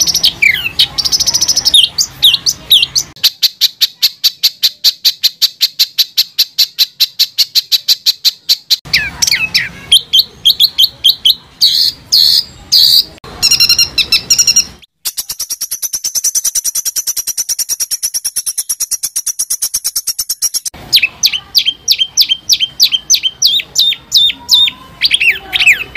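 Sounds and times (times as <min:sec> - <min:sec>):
bird fast trill: 0:00.0 - 0:25.9
songbird rapid repeated notes: 0:00.0 - 0:25.9.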